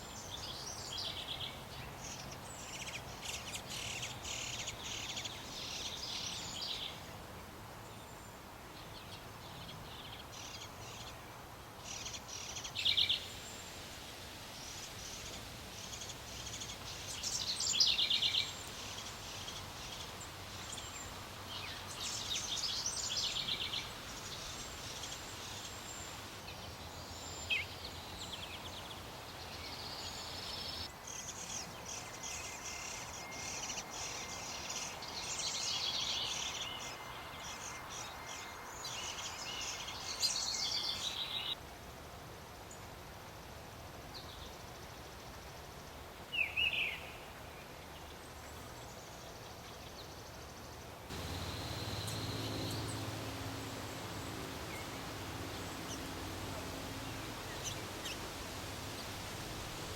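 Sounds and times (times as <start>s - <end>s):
songbirds chirping: 0.0s - 41.6s, 44.1s - 59.9s
outdoor background hiss: 0.0s - 59.9s.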